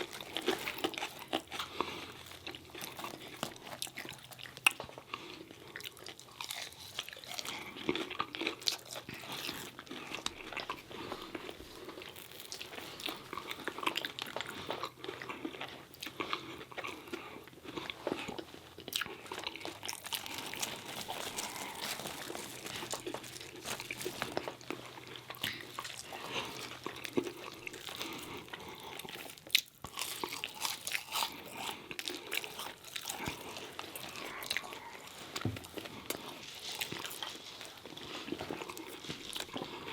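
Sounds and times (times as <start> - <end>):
chewing crunchy fried food: 0.0 - 39.9.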